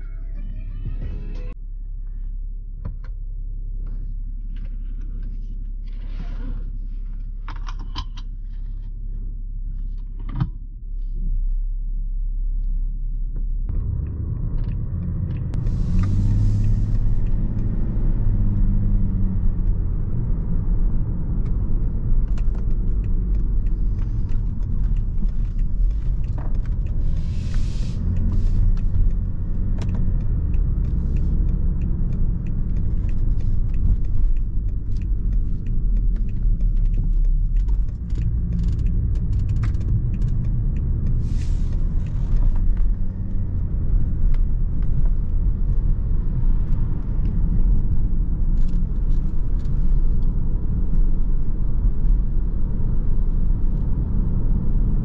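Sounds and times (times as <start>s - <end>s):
car engine from inside cabin: 0.0s - 55.0s
road and tyre noise: 0.0s - 55.0s.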